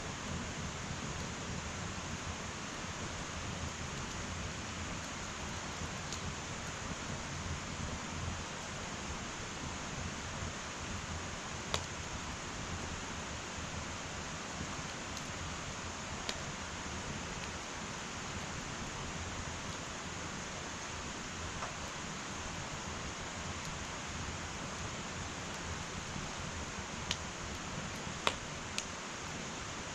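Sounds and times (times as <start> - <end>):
sharp fire crackles: 0.0 - 29.9
wood fire hissing: 0.0 - 29.9.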